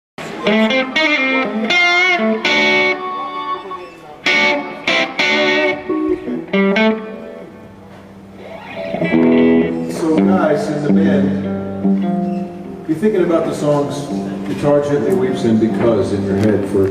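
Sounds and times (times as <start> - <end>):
electric guitar notes: 0.2 - 16.9.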